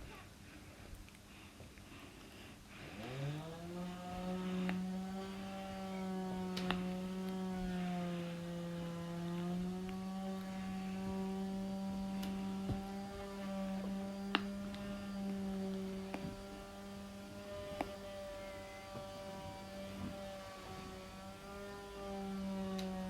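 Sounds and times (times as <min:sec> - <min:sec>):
power sander humming: 0:02.6 - 0:23.0.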